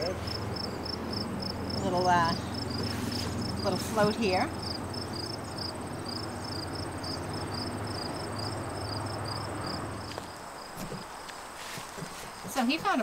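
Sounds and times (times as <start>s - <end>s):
high-pitched insect trill: 0.0s - 11.3s
insects chirping: 0.0s - 13.0s.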